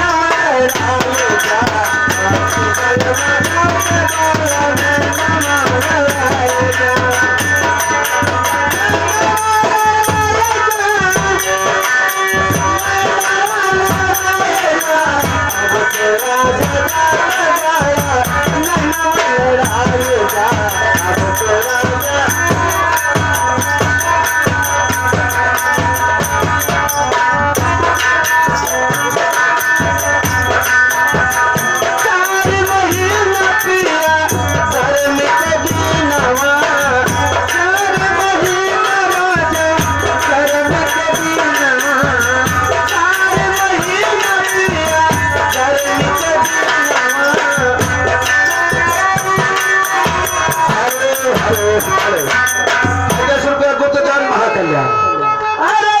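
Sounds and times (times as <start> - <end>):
drum and rattling percussion: 0.0 - 54.5.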